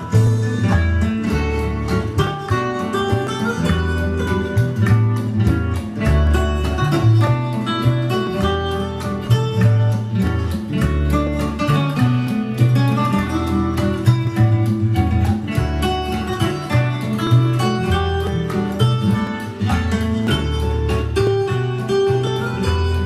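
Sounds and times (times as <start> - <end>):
cassette music with quick melody: 0.0 - 23.0.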